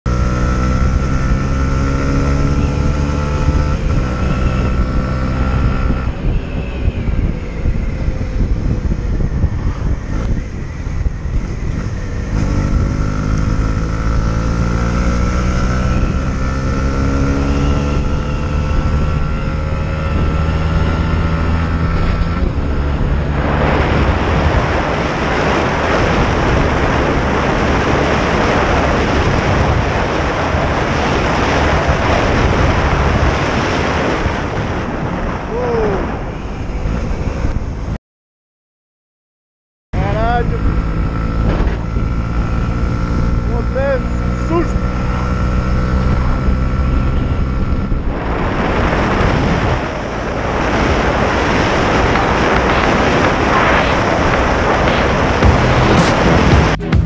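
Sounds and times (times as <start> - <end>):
motorcycle engine accelerating: 0.0 - 38.0, 40.0 - 57.0
wind rush on microphone: 0.1 - 38.0, 40.0 - 56.8.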